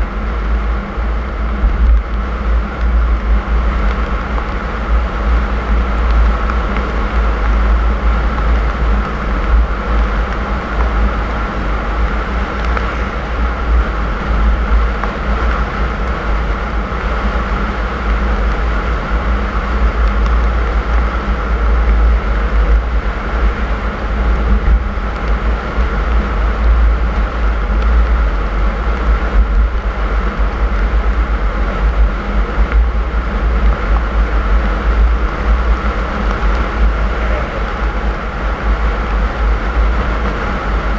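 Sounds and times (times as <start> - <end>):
car driving on snowy road: 0.0 - 40.9.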